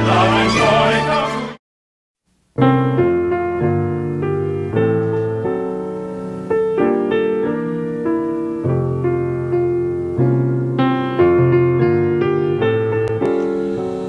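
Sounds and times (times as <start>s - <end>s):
keyboard playing slow chords: 2.6s - 14.0s.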